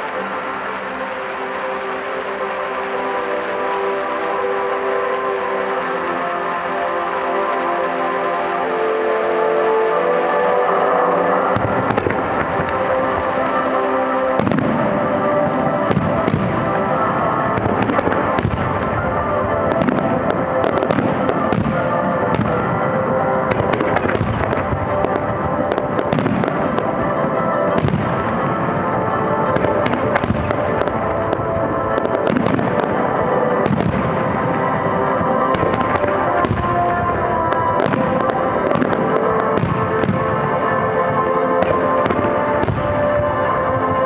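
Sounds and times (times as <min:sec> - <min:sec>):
show music: 0:00.0 - 0:44.0.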